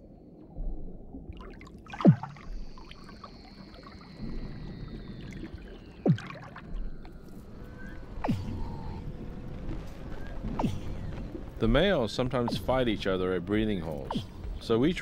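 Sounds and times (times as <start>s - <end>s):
low watery hiss: 2.0s - 15.0s.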